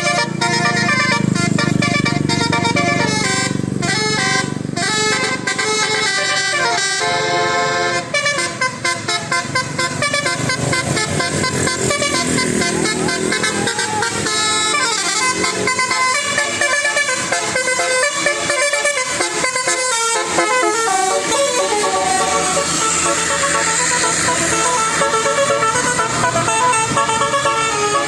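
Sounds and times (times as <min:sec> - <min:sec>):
multi-tone bus horn tune: 0:00.0 - 0:28.0.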